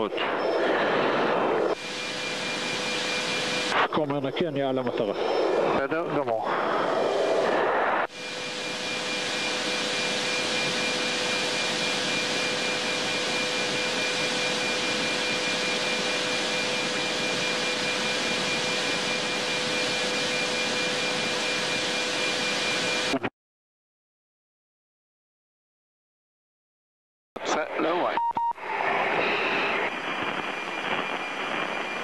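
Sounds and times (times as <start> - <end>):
jet cockpit hiss and hum: 0.0 - 4.4, 5.0 - 23.2, 27.5 - 32.0
high whine: 0.0 - 23.3, 27.4 - 32.0.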